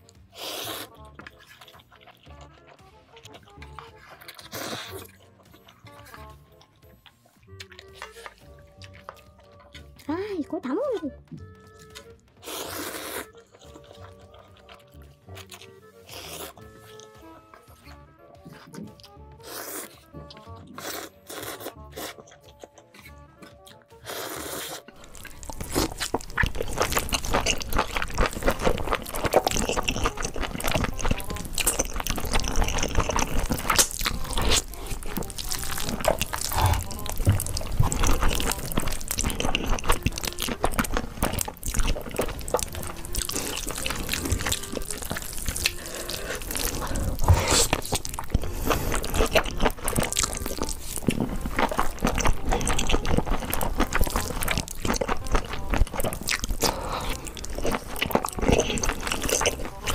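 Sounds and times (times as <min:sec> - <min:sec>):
slurping and chewing noodles: 0:00.0 - 0:10.1, 0:11.4 - 0:59.9.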